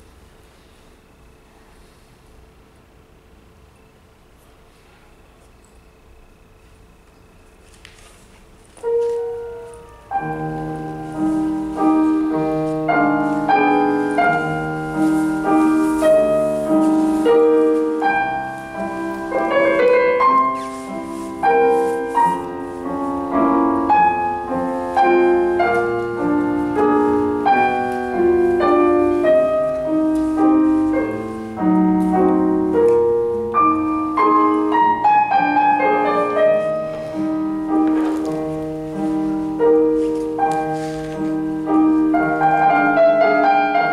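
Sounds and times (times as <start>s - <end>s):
solo piano music: 8.6s - 43.9s.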